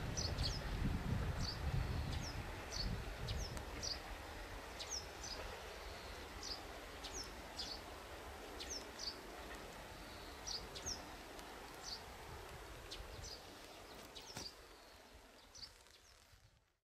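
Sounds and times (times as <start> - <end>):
faint outdoor hiss: 0.0 - 16.8
small birds chirping: 1.4 - 4.0, 4.7 - 7.9, 8.5 - 16.4.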